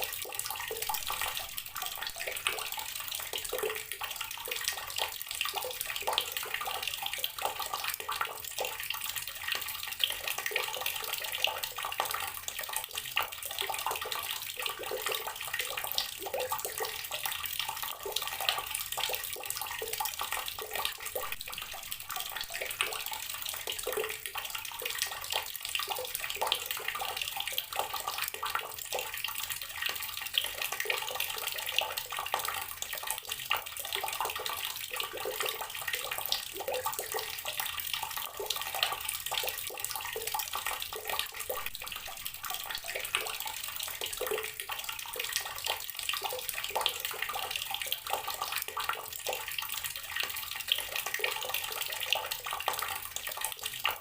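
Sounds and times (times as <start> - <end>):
water running from outdoor tap: 0.0 - 54.0.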